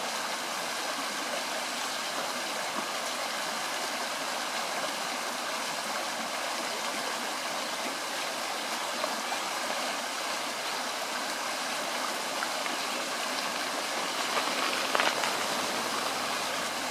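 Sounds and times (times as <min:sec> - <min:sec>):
creek water rushing: 0:00.0 - 0:16.9.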